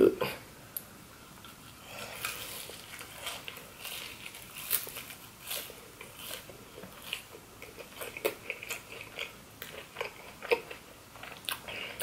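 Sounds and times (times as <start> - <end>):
close-miked chewing with mouth clicks: 1.4 - 12.0.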